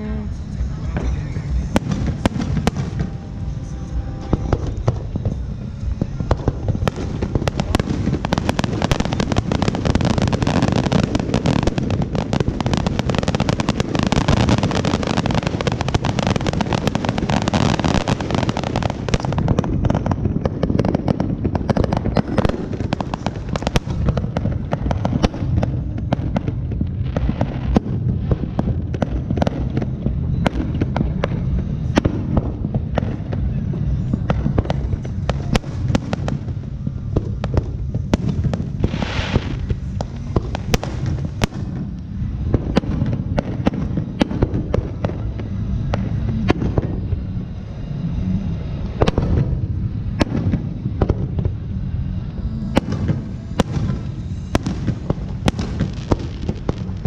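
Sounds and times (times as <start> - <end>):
deep rumble: 0.0 - 57.0
fireworks crackling and banging: 0.0 - 57.0.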